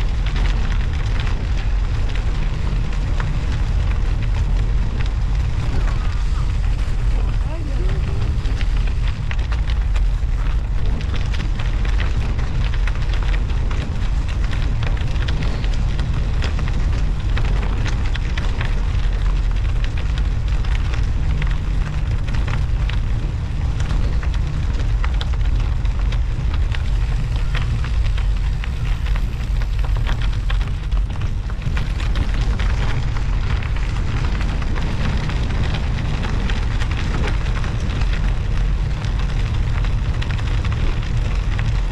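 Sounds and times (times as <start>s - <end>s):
studded tyres crackling on ice: 0.0s - 41.9s
wind noise on microphone: 0.0s - 41.9s.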